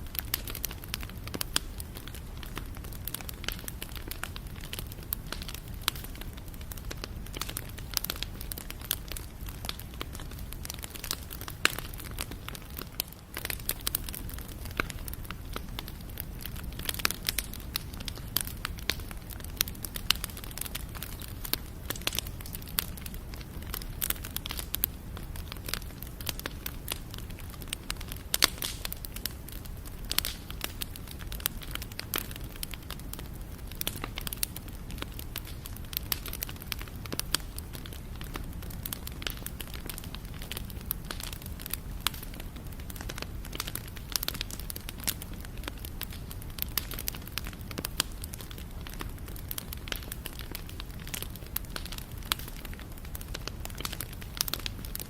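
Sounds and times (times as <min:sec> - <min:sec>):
wood crackling and popping: 0:00.0 - 0:55.0.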